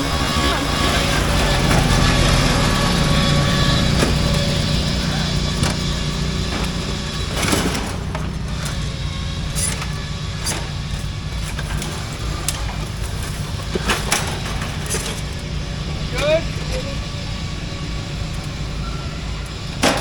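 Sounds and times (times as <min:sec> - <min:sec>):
lawn mower engines racing: 0:00.0 - 0:20.0
sharp knocks and clatters: 0:00.2 - 0:20.0.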